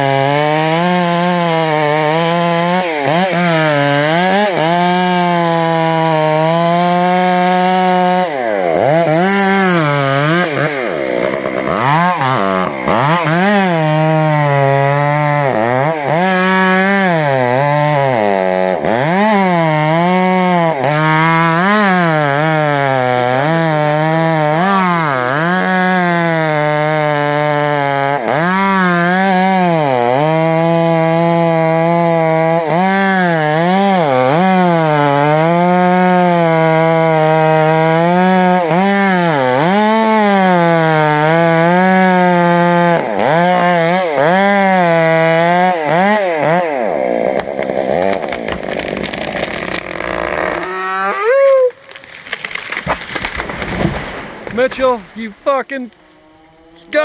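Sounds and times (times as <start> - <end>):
chainsaw cutting wood: 0.0 - 57.0
wood cracking: 0.1 - 57.0.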